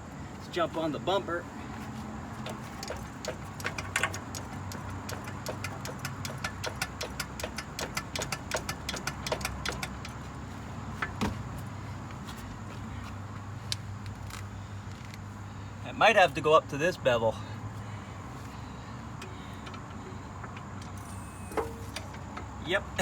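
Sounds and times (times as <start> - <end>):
suspension clicks and rattles: 1.7 - 15.7, 18.6 - 23.0.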